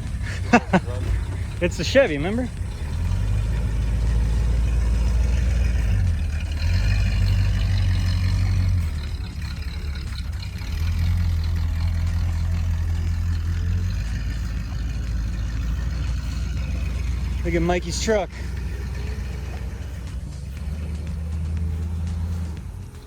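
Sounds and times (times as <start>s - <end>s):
pickup engine rumbling: 0.0s - 23.0s.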